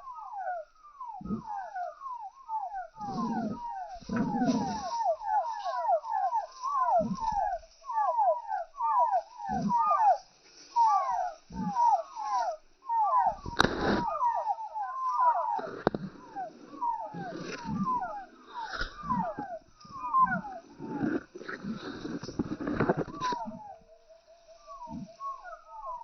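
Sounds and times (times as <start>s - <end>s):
chickens calling: 0.0s - 26.0s.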